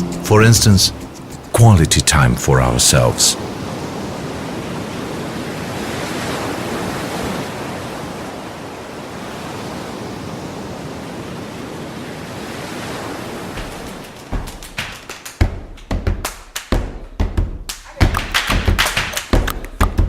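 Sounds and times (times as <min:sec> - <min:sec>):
ocean waves rushing: 0:00.0 - 0:17.0, 0:17.8 - 0:20.0.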